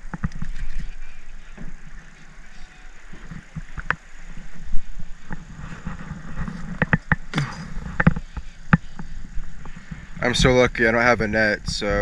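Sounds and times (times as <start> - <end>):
knocks and clatters on a boat: 0.0 - 12.0.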